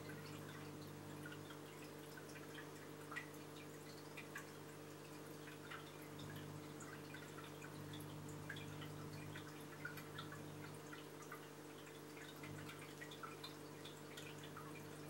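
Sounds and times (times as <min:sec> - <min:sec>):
aquarium pump hum: 0:00.0 - 0:15.0
water dripping and trickling: 0:00.0 - 0:15.0.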